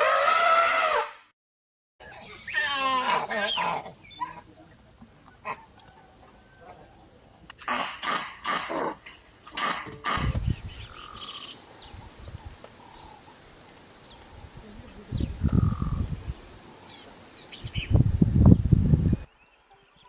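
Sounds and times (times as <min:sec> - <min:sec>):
high insect chirr: 0:02.0 - 0:20.0.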